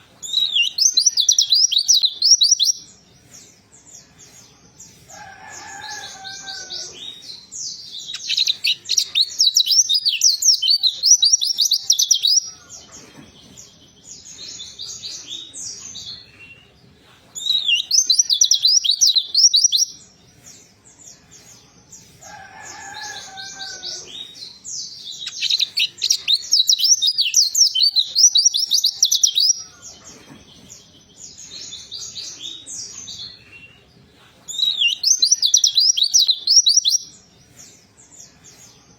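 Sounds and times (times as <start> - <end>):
quiet bird chatter: 0.0 - 38.9.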